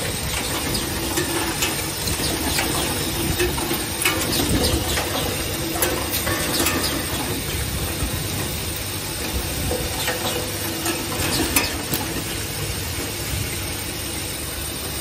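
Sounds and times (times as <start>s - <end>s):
assembly machinery running: 0.0s - 15.0s.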